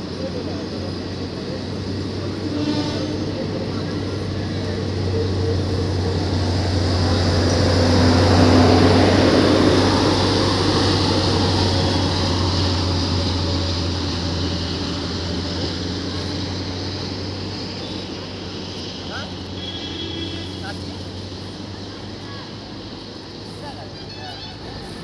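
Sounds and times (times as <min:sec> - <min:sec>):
diesel train engine humming: 0:00.0 - 0:25.0
train coaches rolling on rails: 0:00.0 - 0:25.0.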